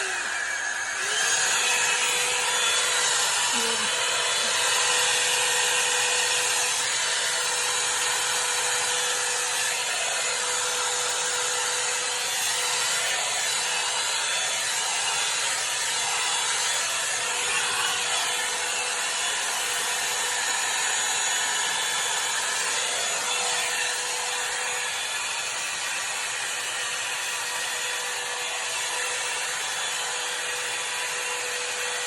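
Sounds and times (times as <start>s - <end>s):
hot air brush blowing: 0.0s - 32.0s.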